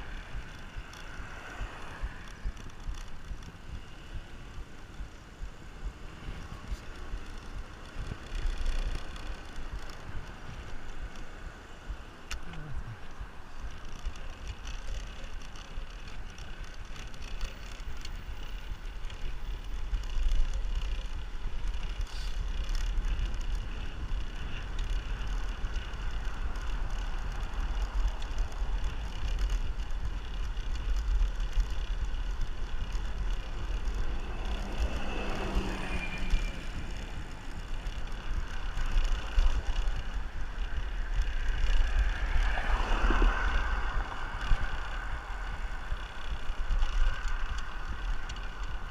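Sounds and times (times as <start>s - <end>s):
bicycle road noise: 0.0s - 48.9s
vehicles passing by: 0.0s - 48.9s
wind rumbling on microphone: 0.0s - 48.9s.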